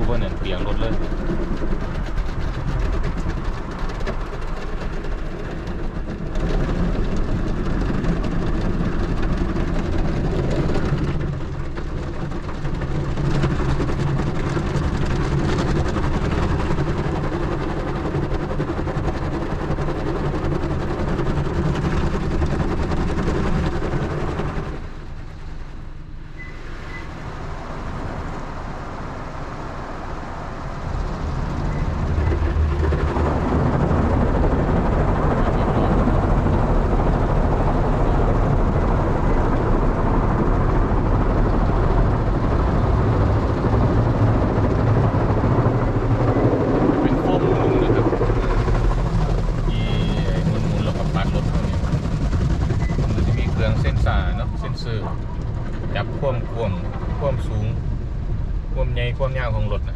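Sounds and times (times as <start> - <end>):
car wash mechanical rumble: 0.0 - 59.9.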